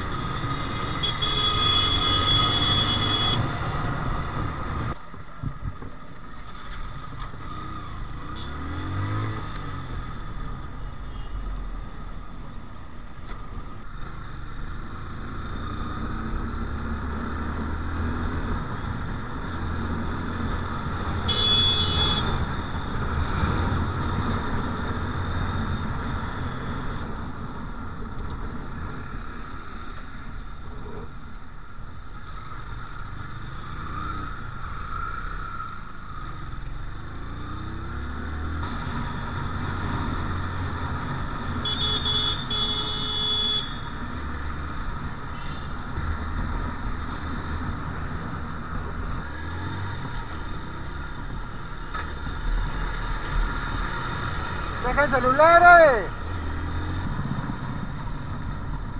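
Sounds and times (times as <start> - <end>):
vehicles passing close by: 0.0 - 58.9
wind and road noise: 0.0 - 58.9.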